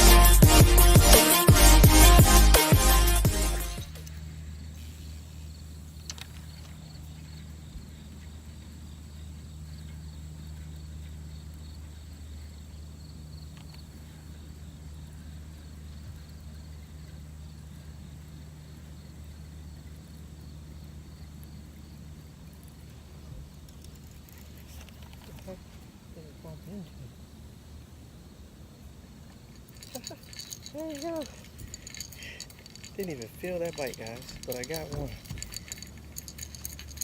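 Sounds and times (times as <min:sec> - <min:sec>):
steady low hum: 0:00.0 - 0:37.0
insects chirring: 0:03.9 - 0:37.0.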